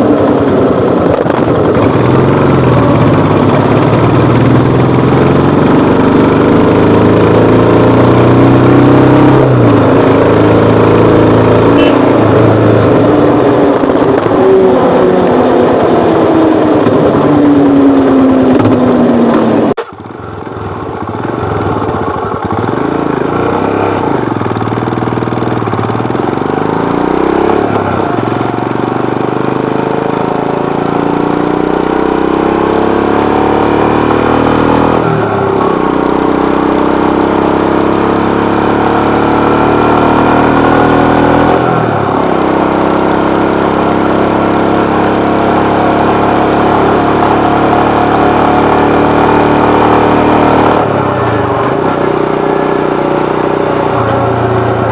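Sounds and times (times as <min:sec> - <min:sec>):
motorcycle engine shifting up gears: 0:00.0 - 0:54.9.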